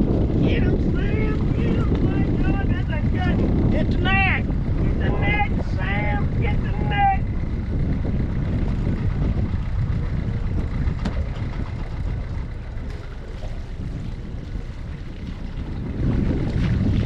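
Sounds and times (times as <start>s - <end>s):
low rumble on a boat: 0.0s - 17.0s.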